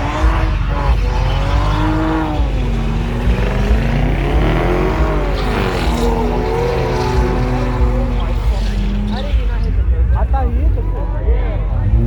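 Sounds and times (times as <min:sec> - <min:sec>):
car engines revving: 0:00.0 - 0:12.0
low engine rumble: 0:00.0 - 0:12.0.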